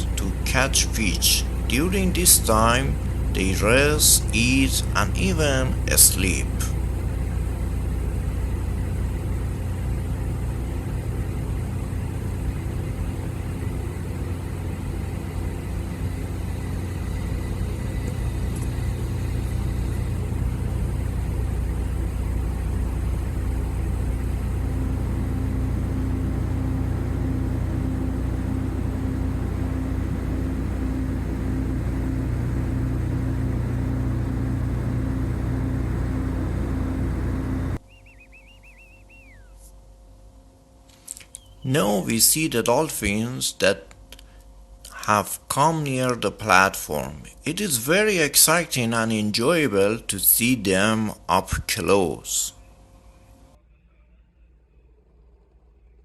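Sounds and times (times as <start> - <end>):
low engine drone: 0.0 - 53.6.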